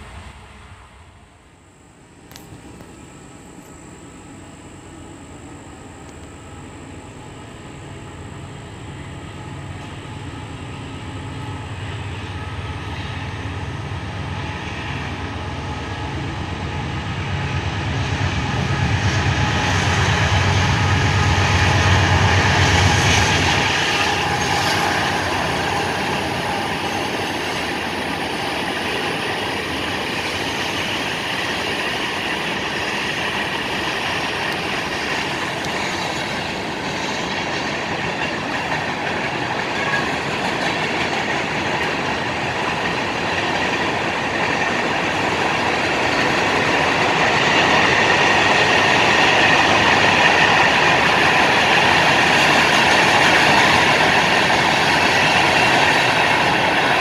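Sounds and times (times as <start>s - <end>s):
diesel locomotive engine rumble: 0.0s - 57.0s
train cars rolling on rails: 0.0s - 57.0s.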